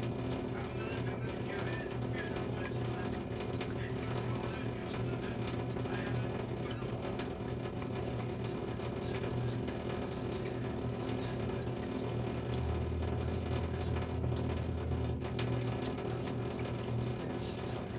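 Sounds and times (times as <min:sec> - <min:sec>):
cat lapping water: 0:00.0 - 0:17.9
running tap water: 0:00.0 - 0:17.9.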